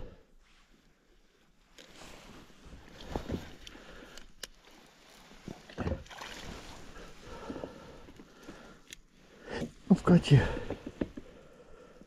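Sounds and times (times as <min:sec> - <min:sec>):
water sloshing around kayak: 0:01.5 - 0:11.6.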